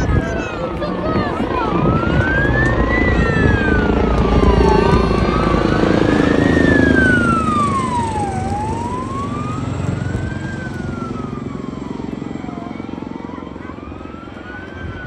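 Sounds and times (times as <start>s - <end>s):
helicopter rotor chop: 0.0s - 15.0s
siren wailing: 0.0s - 15.0s.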